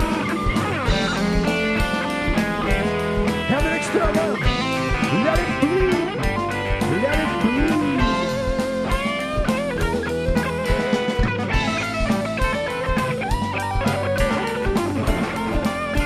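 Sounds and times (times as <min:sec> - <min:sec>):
bass: 0:00.0 - 0:16.0
drum beat: 0:00.0 - 0:16.0
electric guitar lead: 0:00.0 - 0:16.0.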